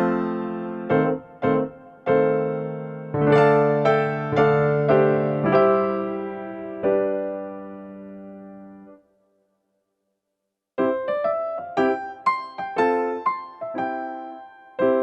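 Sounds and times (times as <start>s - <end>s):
slow keyboard piano tune: 0.0s - 9.1s, 10.8s - 15.0s.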